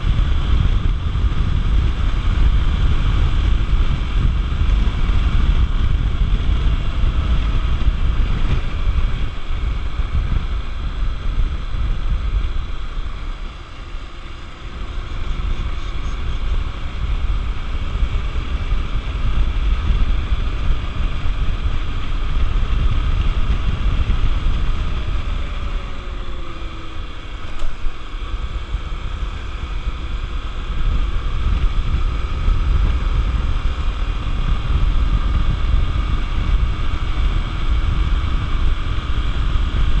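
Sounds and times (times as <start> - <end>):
motorcycle engine running: 0.0 - 40.0
wind buffeting microphone: 0.0 - 40.0.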